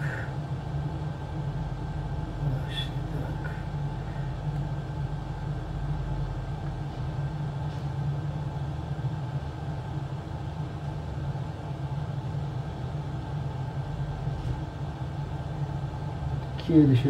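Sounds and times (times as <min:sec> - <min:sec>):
low hum of workbench equipment: 0:00.0 - 0:17.0.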